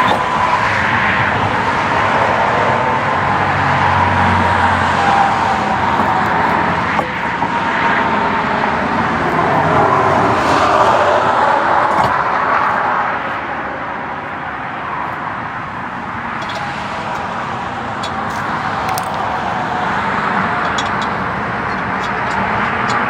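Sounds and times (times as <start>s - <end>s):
rush of passing cars: 0.0s - 23.0s.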